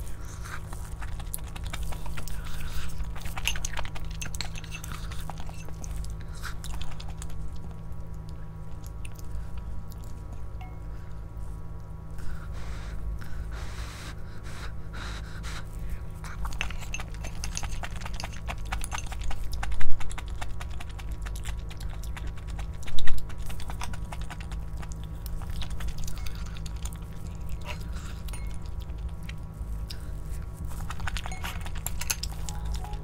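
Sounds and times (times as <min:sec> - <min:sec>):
person chewing: 0:00.0 - 0:10.7, 0:15.4 - 0:33.0.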